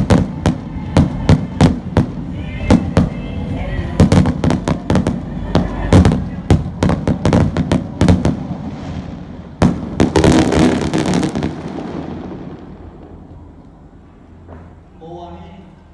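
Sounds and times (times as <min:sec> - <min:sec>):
fireworks bangs: 0:00.0 - 0:14.9
fireworks crackling: 0:00.0 - 0:14.9.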